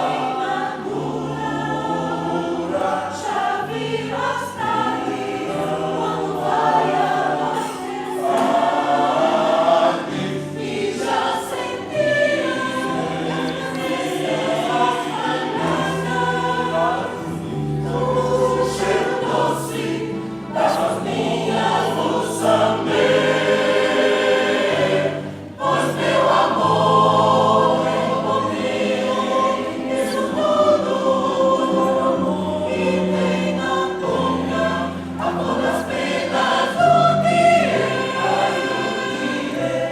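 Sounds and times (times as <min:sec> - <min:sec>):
choir singing: 0:00.0 - 0:39.9
piano accompaniment: 0:00.0 - 0:39.9.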